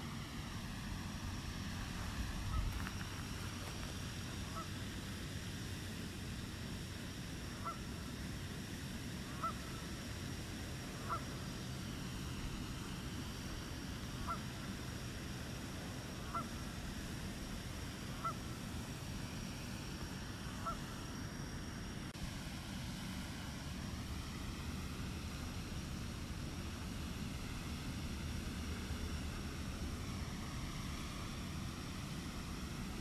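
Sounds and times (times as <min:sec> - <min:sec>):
faint rising hum: 0:00.0 - 0:33.0.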